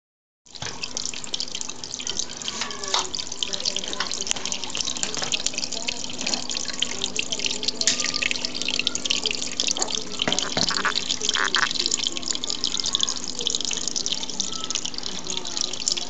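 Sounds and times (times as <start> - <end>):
water trickling and splashing: 0.5 - 16.0.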